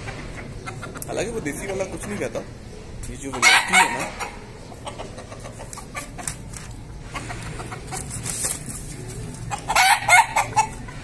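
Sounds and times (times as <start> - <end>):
rooster clucking: 0.0 - 11.0.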